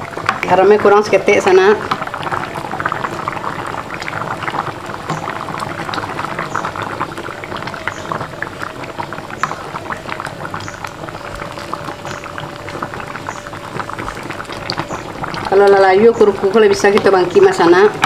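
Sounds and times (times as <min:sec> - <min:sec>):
curry bubbling at a boil: 0:00.0 - 0:18.0.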